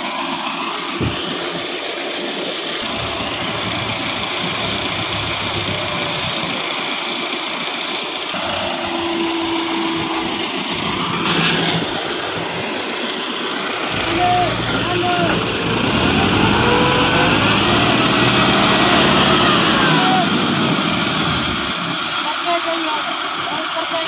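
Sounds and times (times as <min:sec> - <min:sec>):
tractor diesel engine running: 0:02.8 - 0:24.0.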